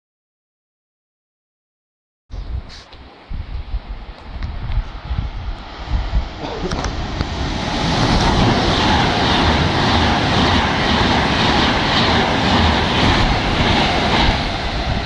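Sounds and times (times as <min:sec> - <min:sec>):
express train rushing past: 0:02.6 - 0:15.0.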